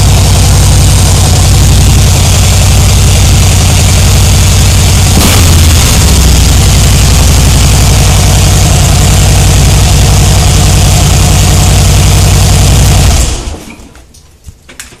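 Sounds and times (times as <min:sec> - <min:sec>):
motorcycle engine idling: 0:00.0 - 0:13.3.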